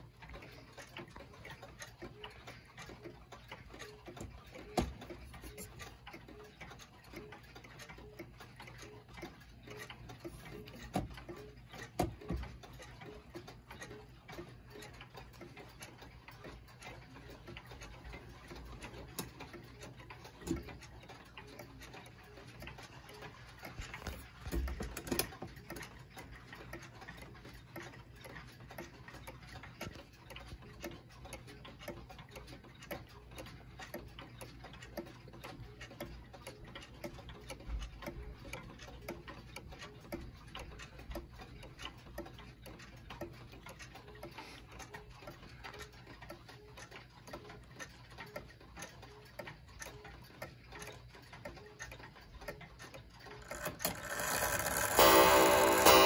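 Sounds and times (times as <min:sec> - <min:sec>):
wall clock ticking: 0:00.0 - 0:56.0.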